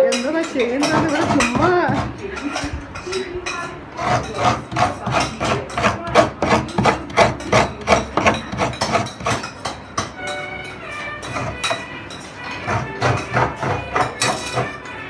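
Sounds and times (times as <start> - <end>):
coconut scraping on metal blade: 0.1 - 14.9.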